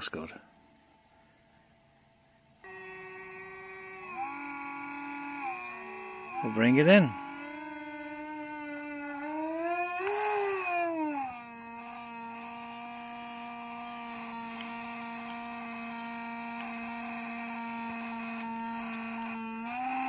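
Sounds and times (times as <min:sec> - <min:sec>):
small electric motors whining: 0:02.6 - 0:20.0.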